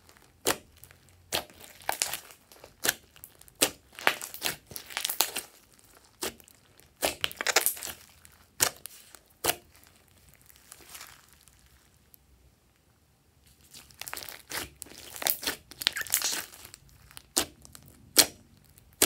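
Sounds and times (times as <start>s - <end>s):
slime crackling and popping: 0.0s - 12.1s, 13.5s - 19.0s.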